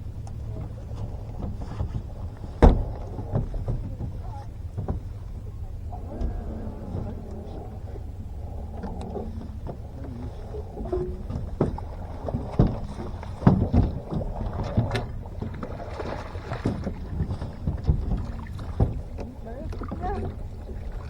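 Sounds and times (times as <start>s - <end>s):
knocks and thumps on boat: 0.0s - 21.0s
low rumble: 0.0s - 21.0s.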